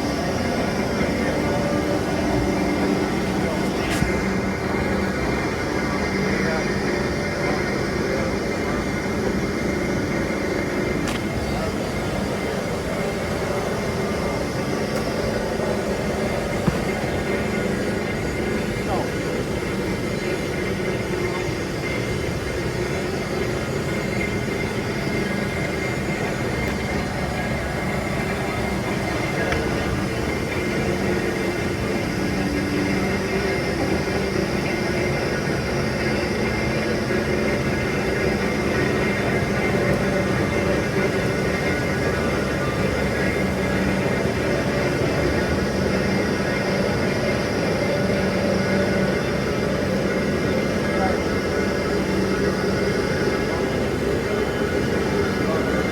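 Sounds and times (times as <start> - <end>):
train rumble and hiss: 0.0 - 55.9.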